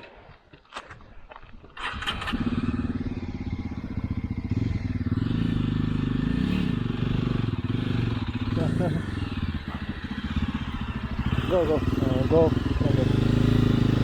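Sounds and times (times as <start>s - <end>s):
motorcycle engine running: 1.8s - 14.0s.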